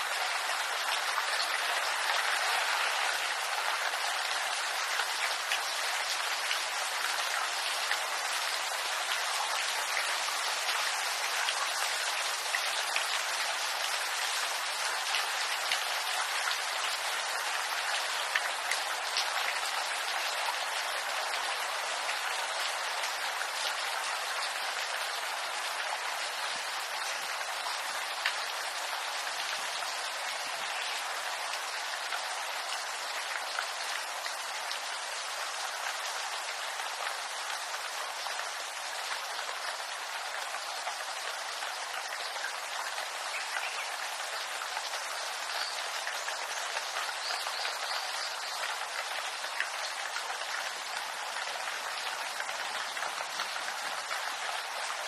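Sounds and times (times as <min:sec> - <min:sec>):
rain on bamboo leaves: 0:00.0 - 0:55.0.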